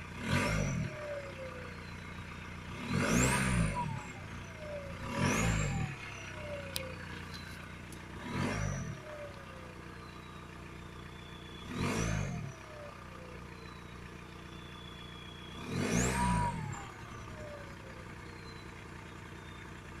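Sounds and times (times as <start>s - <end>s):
diesel engine idling: 0.0s - 20.0s
engine revving: 0.0s - 20.0s
turbocharger whistling: 0.0s - 20.0s.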